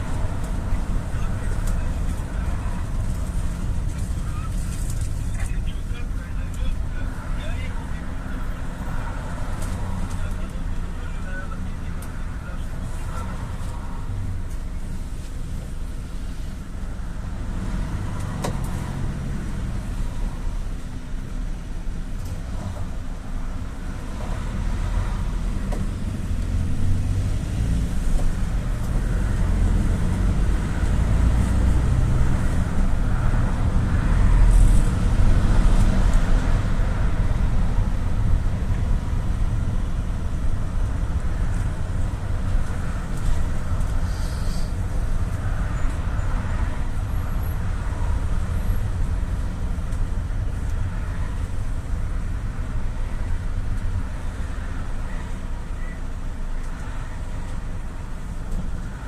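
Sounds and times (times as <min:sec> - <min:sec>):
minibus engine and road rumble: 0:00.0 - 0:59.0.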